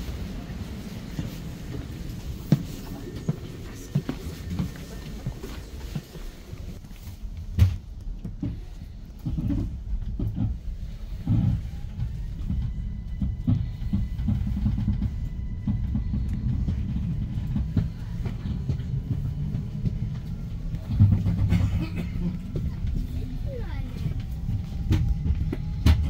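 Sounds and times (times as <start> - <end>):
train interior low rumble: 0.0 - 26.0.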